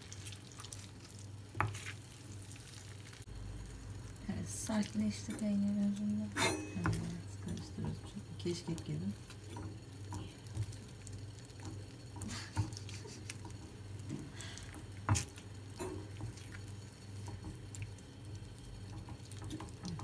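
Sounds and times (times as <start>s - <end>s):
wooden spoon stirring thick mix: 0.0s - 4.0s, 6.8s - 20.0s
steady low hum: 3.2s - 20.0s.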